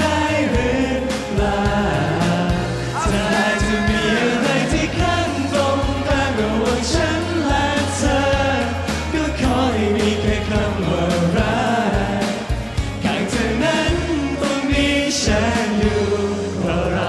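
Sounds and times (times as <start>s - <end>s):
backing track with steady beat: 0.0s - 17.0s
men singing pop song: 0.0s - 17.0s.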